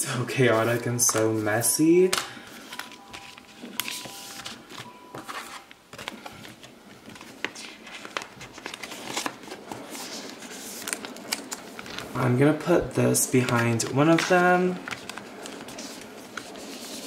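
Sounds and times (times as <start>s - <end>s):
plastic pages crinkling: 0.4s - 17.0s.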